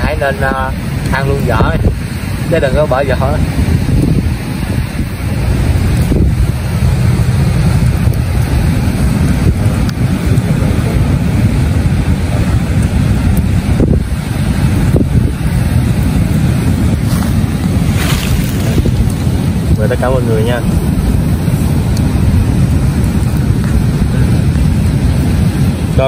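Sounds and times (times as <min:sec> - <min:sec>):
surf breaking on shore: 0:00.0 - 0:26.0
wind buffeting microphone: 0:00.0 - 0:26.0.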